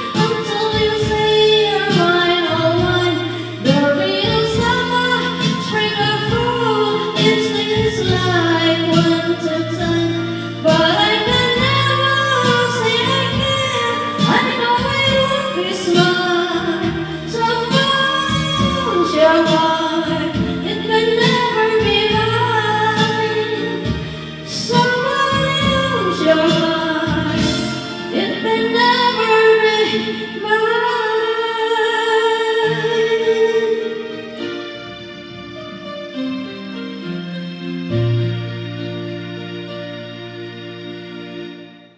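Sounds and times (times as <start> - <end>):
woman singing: 0.0 - 34.6
karaoke backing track: 0.0 - 41.9.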